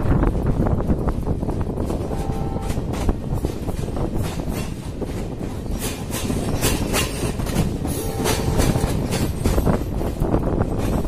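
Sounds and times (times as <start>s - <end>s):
train coach rumble: 0.0s - 11.0s
wheels clacking over rail joints: 0.1s - 11.0s.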